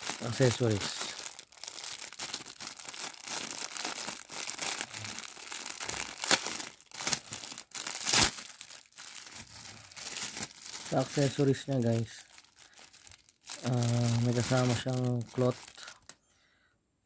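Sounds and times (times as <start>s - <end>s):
packaging crinkling and rustling: 0.0s - 16.2s
sharp packaging crackles: 0.0s - 16.2s.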